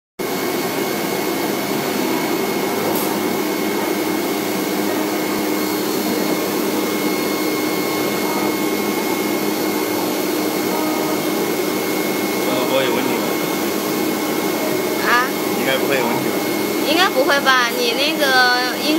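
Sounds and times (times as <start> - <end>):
cutting plotter humming and whining: 0.2 - 18.9.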